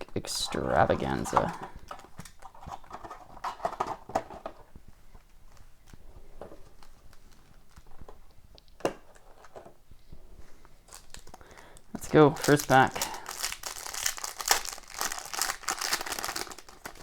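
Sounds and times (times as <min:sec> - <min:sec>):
packaging rustling: 0:00.4 - 0:17.0.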